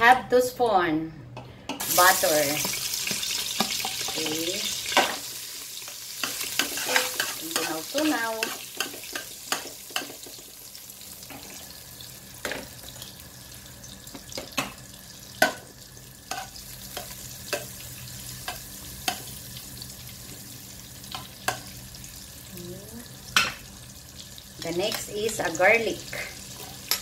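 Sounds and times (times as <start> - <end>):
butter sizzling in a pot: 1.8 - 27.0.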